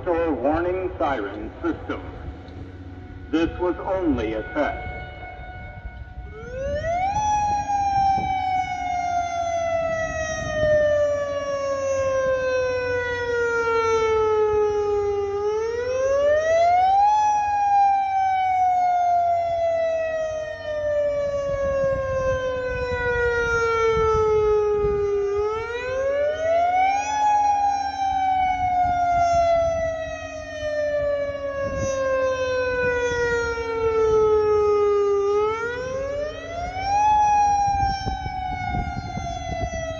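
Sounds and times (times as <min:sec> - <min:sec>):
outdoor warning siren wailing: 0:00.0 - 0:39.9.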